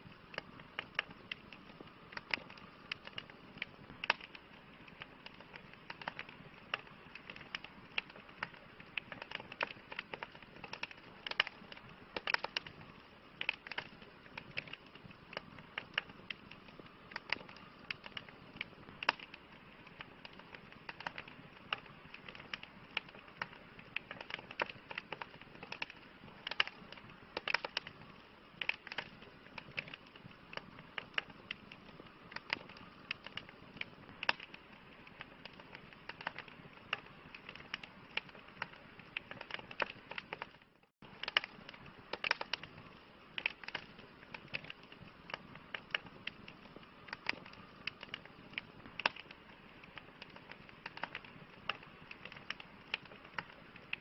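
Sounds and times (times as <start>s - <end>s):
burning wood popping: 0.0s - 54.0s
soft hiss of flame: 0.0s - 54.0s.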